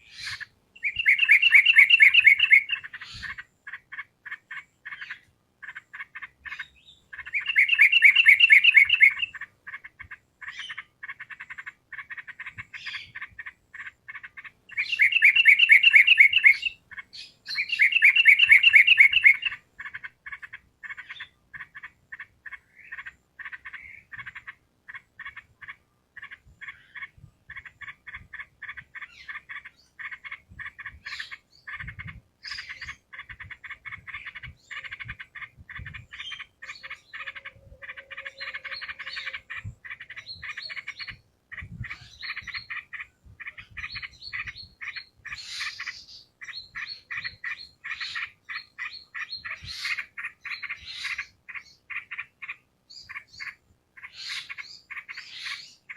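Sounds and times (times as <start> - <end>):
bird chattering song: 0.0 - 55.9.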